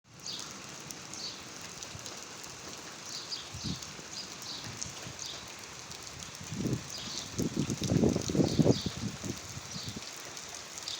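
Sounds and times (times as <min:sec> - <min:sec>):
steady rain falling: 0:00.1 - 0:10.9.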